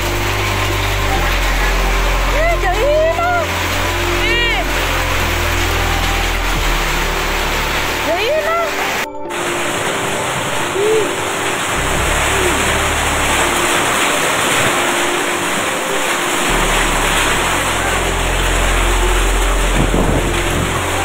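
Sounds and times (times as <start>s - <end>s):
heavy rain and hail: 0.0s - 21.0s
low steady drone: 0.0s - 21.0s.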